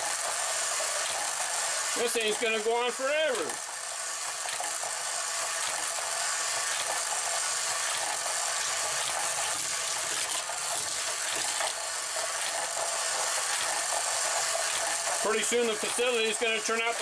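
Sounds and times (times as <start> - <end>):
toy cars rattling over plastic track: 0.0 - 17.0
toy motor whirring: 0.0 - 17.0.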